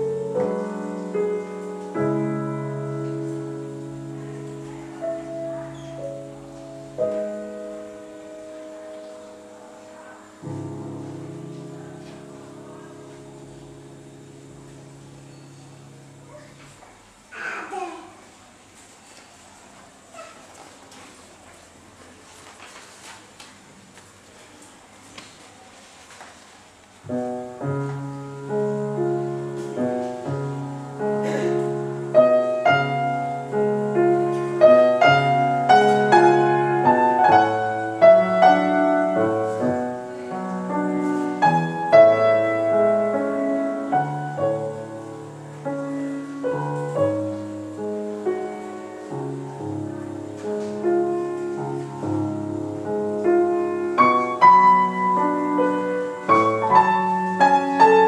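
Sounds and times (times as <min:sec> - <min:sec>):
solo piano piece: 0:00.0 - 0:17.4, 0:26.7 - 0:58.0.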